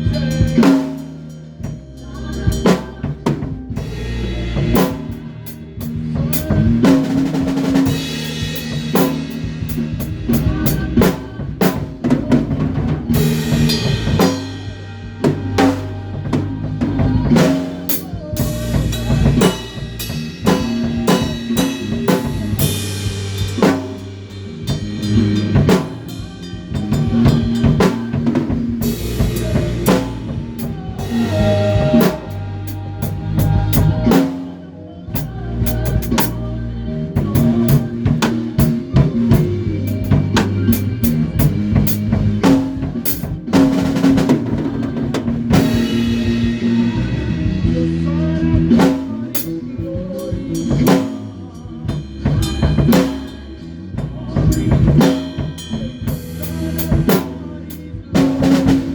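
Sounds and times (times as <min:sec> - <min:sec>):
drum kit hits: 0:00.0 - 0:34.6, 0:35.2 - 0:58.9
band playing a song: 0:00.0 - 0:58.9
low bass notes: 0:00.0 - 0:58.9.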